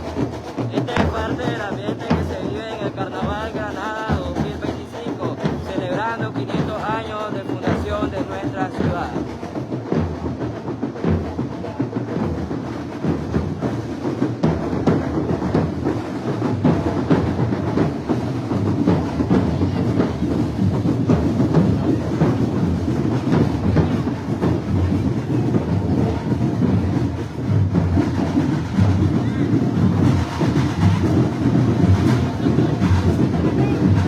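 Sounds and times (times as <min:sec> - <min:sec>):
parade drums and percussion: 0:00.0 - 0:34.0.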